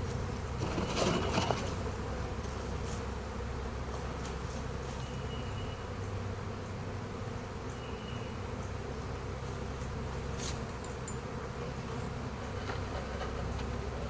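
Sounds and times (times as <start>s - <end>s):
swarm of bees buzzing: 0.0s - 14.0s.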